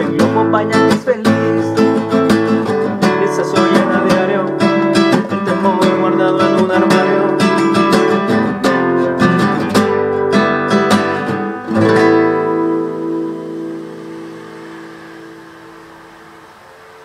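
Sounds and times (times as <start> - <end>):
classical guitar strumming chords: 0.0 - 17.0.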